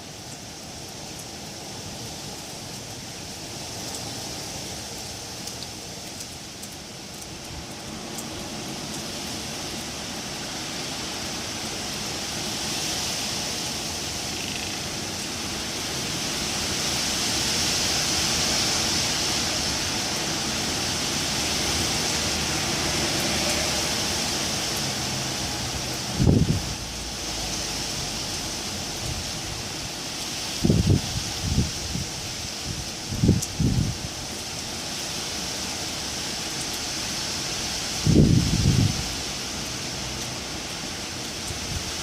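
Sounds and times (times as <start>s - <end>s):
wind blowing through trees: 0.0s - 42.0s.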